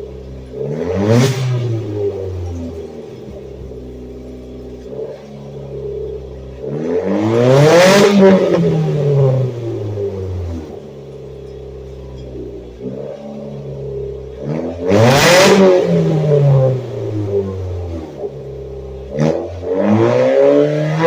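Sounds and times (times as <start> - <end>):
atv engine idling and revving: 0.0 - 21.0.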